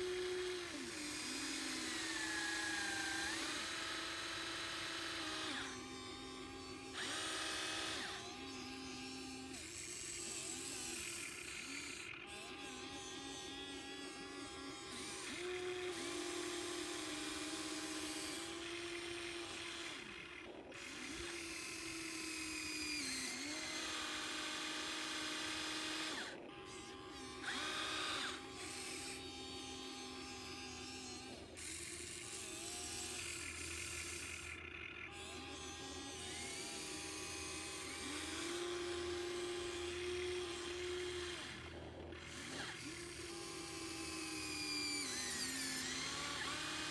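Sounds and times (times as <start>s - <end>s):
small electric motors whining: 0.0s - 46.9s.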